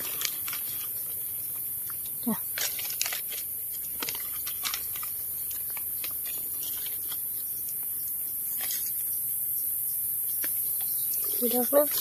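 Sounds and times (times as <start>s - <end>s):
dry leaves and twigs crackling: 0.0s - 12.0s
steady high-pitched hiss: 0.0s - 12.0s.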